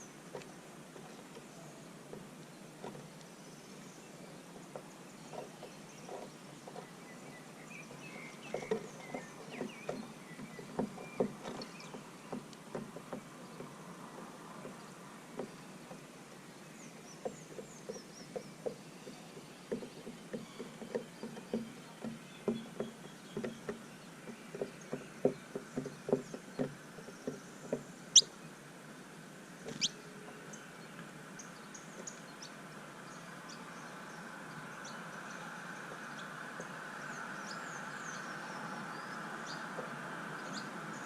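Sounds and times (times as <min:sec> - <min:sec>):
faint distant bird chirping: 0:00.0 - 0:41.0.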